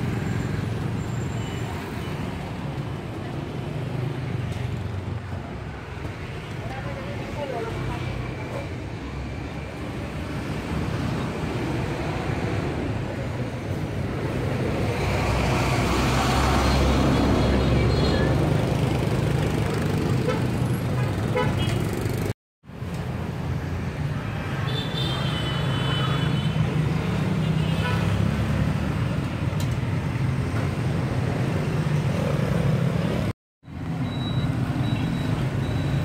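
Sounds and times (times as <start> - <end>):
motorbikes and vehicles passing: 0.0 - 22.4, 23.1 - 36.0.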